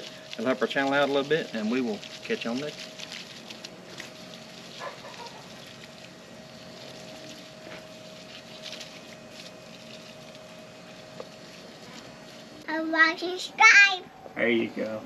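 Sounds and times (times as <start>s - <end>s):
hose water splashing into soil: 0.0s - 12.4s
faint hum: 0.0s - 15.0s.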